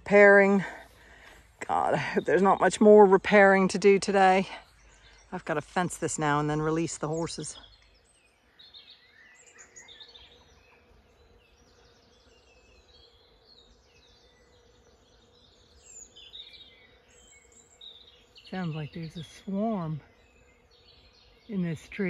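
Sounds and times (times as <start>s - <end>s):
bees humming: 0.0s - 22.0s
birds chirping and twittering: 0.0s - 22.0s.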